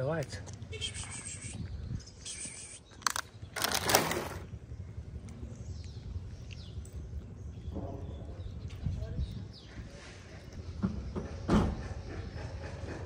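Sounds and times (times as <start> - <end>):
faint street background: 0.0 - 13.0.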